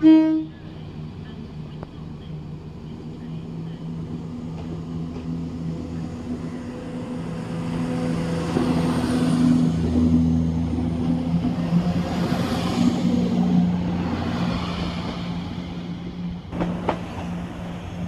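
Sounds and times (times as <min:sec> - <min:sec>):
train diesel engines humming: 0:00.0 - 0:18.0.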